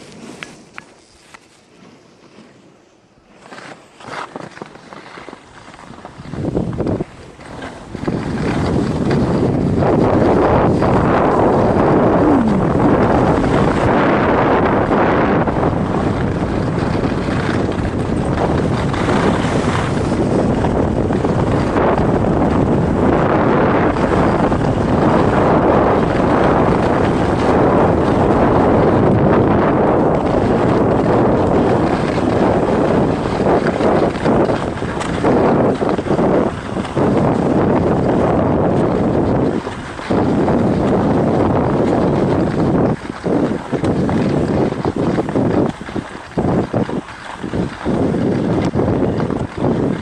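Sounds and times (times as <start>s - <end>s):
wind buffeting microphone: 4.1s - 50.0s.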